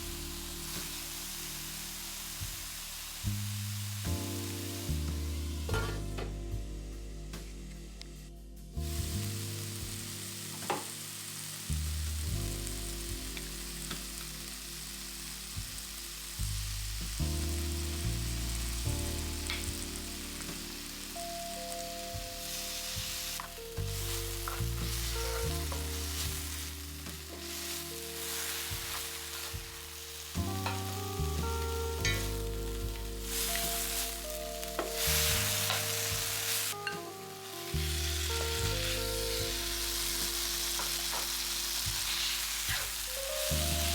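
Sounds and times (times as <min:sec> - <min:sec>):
food sizzling in a frying pan: 0:00.0 - 0:06.0, 0:08.8 - 0:43.9
soft background music: 0:00.0 - 0:43.9.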